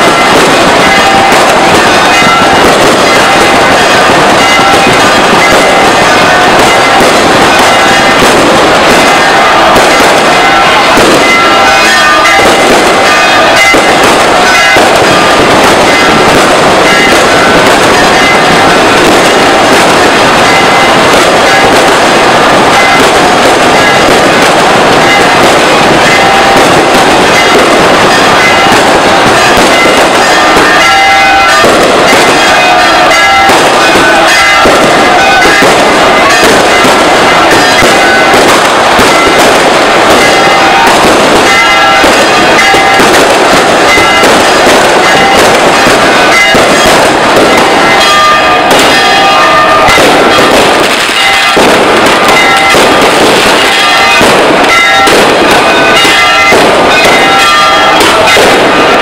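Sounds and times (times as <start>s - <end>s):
firecrackers crackling: 0.0s - 59.0s.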